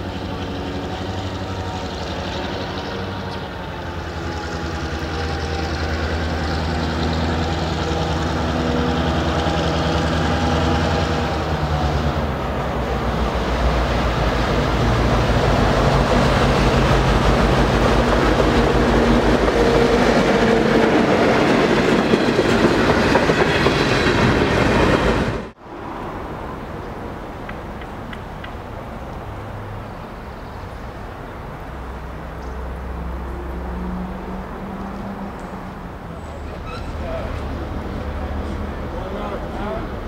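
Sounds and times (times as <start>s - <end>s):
diesel locomotive engine passing: 0.0s - 40.0s.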